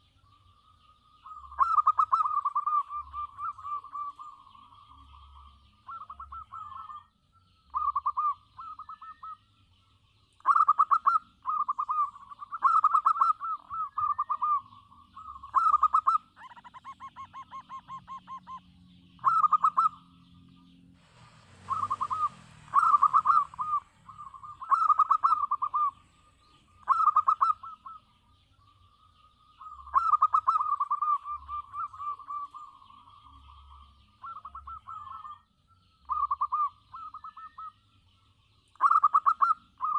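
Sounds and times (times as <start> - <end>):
dove trilled cooing: 1.2 - 7.1, 7.7 - 9.5, 10.4 - 37.8, 38.7 - 39.9.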